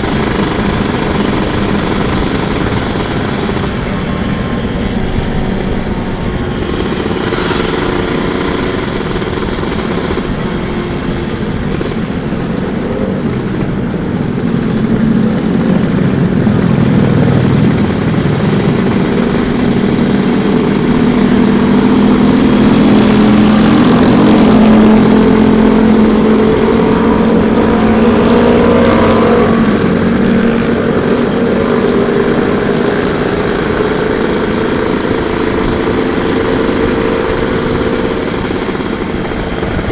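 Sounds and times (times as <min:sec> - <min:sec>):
two-stroke motorcycle engine: 0:00.0 - 0:39.9.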